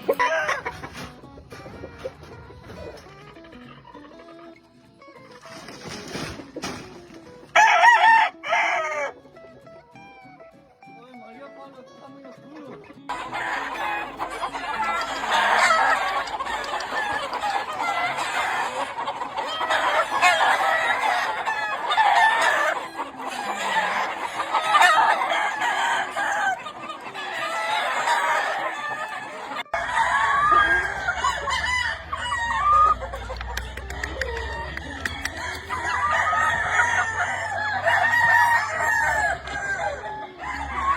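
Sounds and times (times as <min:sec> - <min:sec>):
roosters crowing: 0:00.0 - 0:04.4, 0:05.4 - 0:09.2, 0:13.1 - 0:40.9
chickens clucking: 0:00.0 - 0:10.1, 0:12.1 - 0:40.9.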